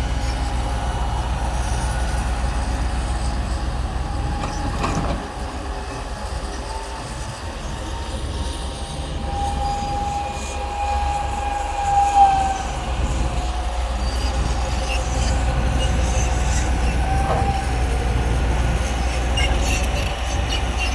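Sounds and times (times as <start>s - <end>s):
bulldozer engine rumble: 0.0s - 20.9s
steel tracks squealing: 0.0s - 20.9s.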